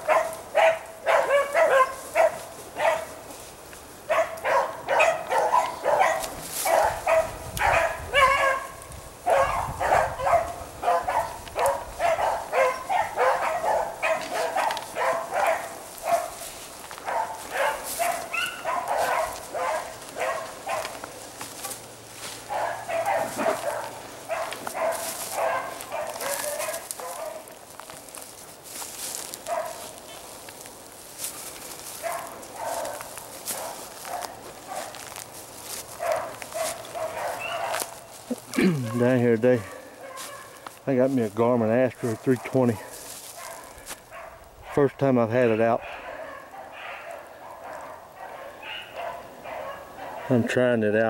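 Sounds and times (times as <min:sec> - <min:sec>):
dogs baying: 0:00.0 - 0:03.2, 0:04.1 - 0:27.6, 0:29.4 - 0:30.0, 0:31.3 - 0:40.8, 0:41.8 - 0:50.5.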